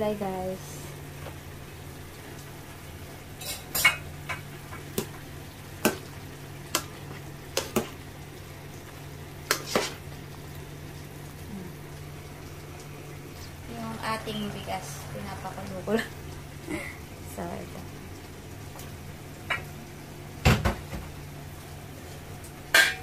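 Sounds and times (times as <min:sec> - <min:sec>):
steady low hum: 0:00.0 - 0:20.4.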